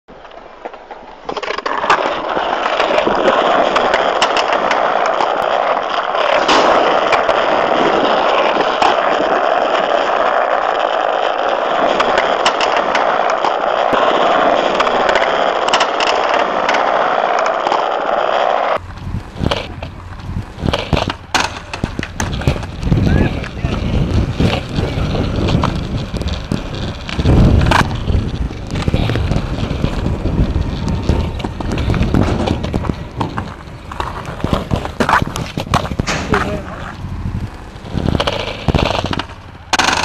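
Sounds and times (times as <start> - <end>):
skateboard wheels rolling on concrete: 0.1 - 40.0
skateboard wooden clacks: 0.1 - 40.0.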